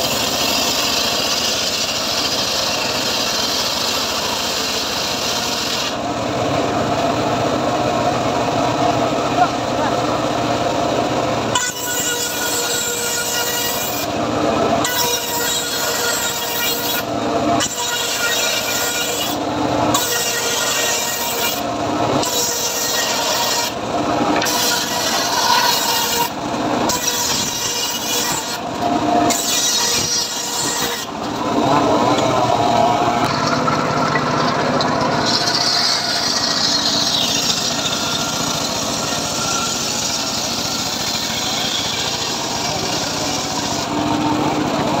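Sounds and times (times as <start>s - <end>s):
circular saw cutting wood: 0.0s - 45.0s.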